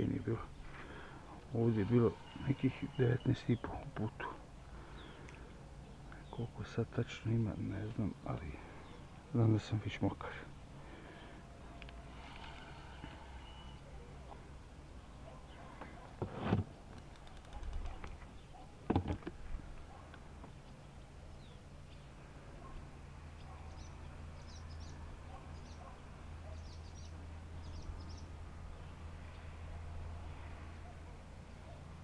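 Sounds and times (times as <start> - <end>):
small birds chirping: 0.0 - 16.2, 16.8 - 29.9.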